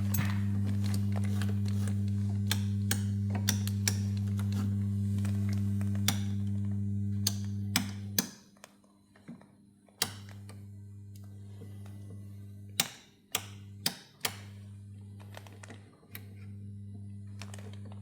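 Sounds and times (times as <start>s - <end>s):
low mains hum: 0.0s - 18.0s.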